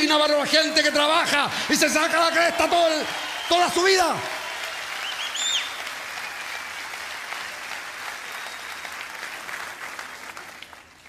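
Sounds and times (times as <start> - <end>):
audience applauding: 0.7 - 11.0.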